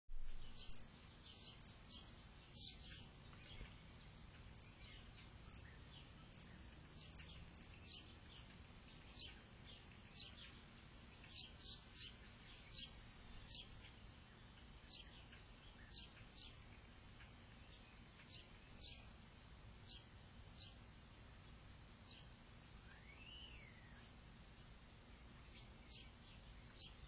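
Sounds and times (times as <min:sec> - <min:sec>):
low background rumble: 0:00.1 - 0:27.0
small birds chirping: 0:00.1 - 0:27.0.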